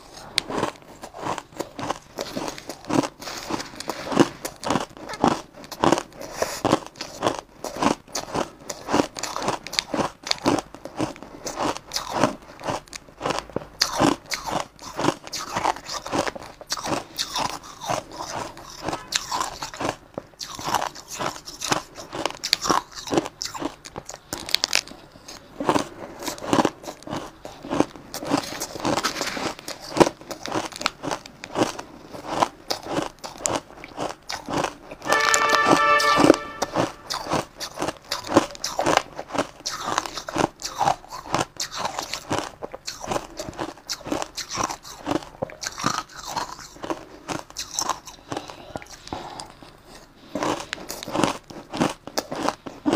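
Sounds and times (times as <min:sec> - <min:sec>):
chewing crushed ice: 0:00.0 - 0:52.9.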